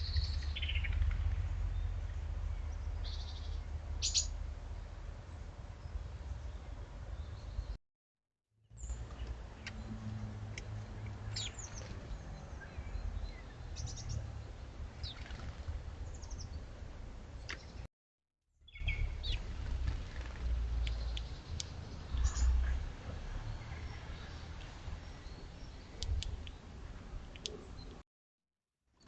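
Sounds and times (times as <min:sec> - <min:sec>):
small birds chirping: 0:00.0 - 0:07.8, 0:10.6 - 0:17.9, 0:18.6 - 0:22.8, 0:23.5 - 0:28.0.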